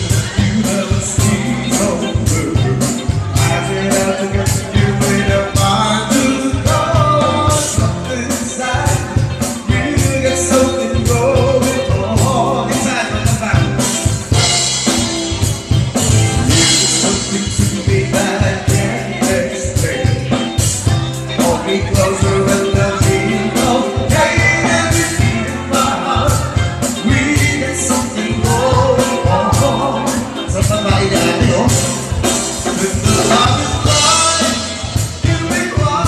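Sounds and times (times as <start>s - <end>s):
bass: 0.0s - 36.0s
drum kit beat: 0.0s - 36.0s
live band playing: 0.0s - 36.0s
person singing: 0.0s - 36.0s.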